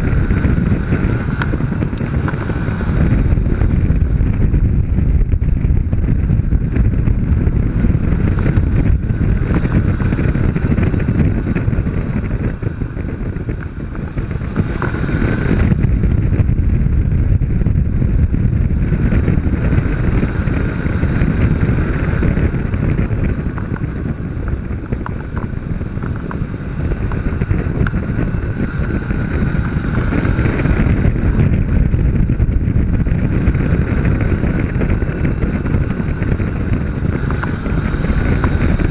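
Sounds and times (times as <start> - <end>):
motorcycle engine running: 0.0 - 38.9
wind buffeting on microphone: 0.0 - 38.9.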